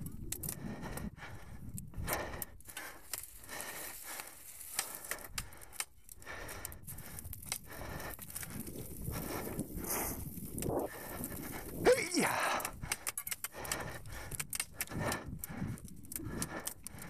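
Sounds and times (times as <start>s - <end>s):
bike clicks and rattles: 2.0s - 17.0s.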